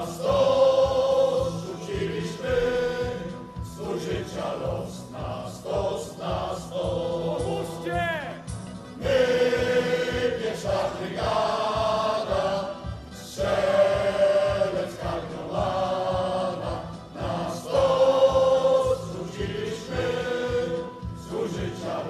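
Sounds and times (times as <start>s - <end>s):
choir singing in unison: 0.0s - 7.9s, 8.9s - 22.0s.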